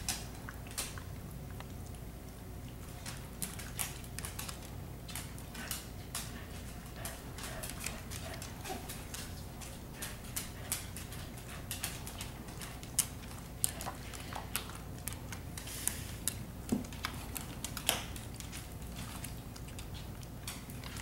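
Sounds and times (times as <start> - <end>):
dog claws clicking on wood floor: 0.0 - 1.7, 2.9 - 21.0.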